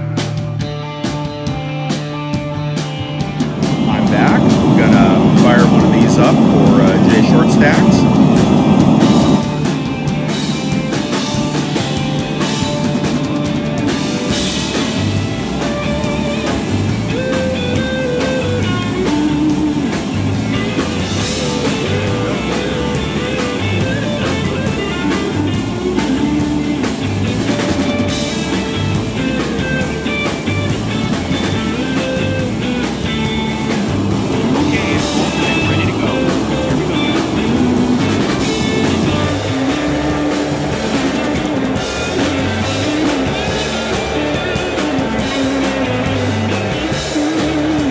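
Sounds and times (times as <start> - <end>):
rock music with drums and guitar: 0.0 - 47.9.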